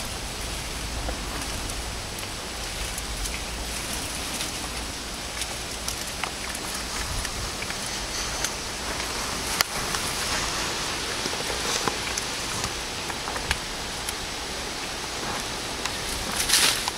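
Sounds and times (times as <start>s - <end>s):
cat crunching stems: 0.0s - 16.9s
steady hiss: 0.0s - 16.9s.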